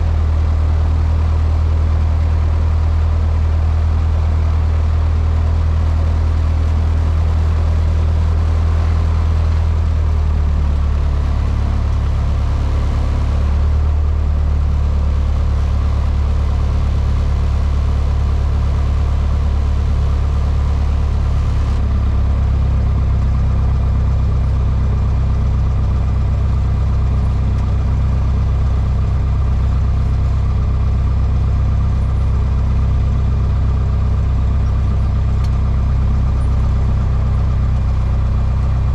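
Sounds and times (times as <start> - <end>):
airplane engine and propeller drone: 0.0 - 38.9.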